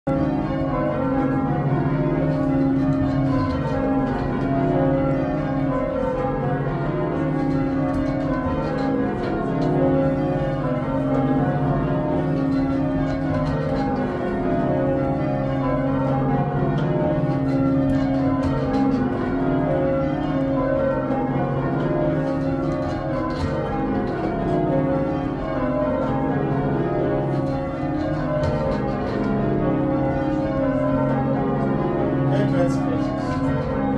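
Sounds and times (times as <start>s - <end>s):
church bells change ringing: 0.1s - 33.9s.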